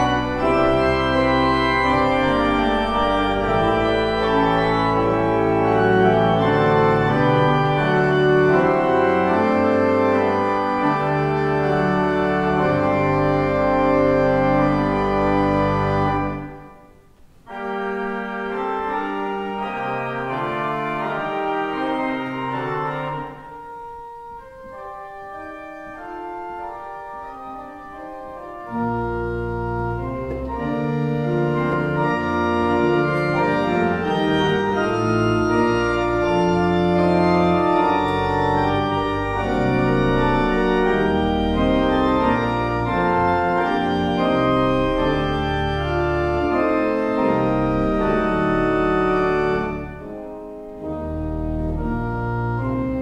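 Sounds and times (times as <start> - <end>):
church organ playing: 0.0 - 53.0.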